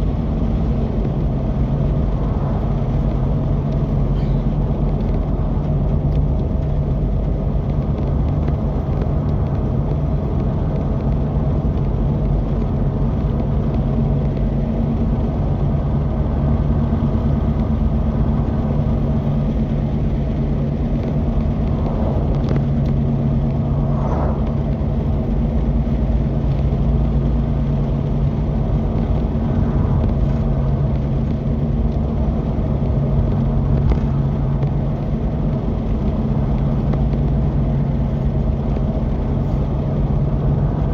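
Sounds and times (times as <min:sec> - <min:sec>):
driving noise: 0:00.0 - 0:40.9
utility vehicle engine droning: 0:00.0 - 0:40.9.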